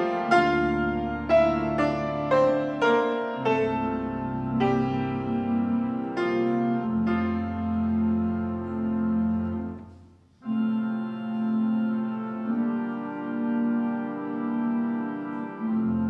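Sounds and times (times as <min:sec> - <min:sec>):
organ playing slow chords: 0:00.0 - 0:16.0.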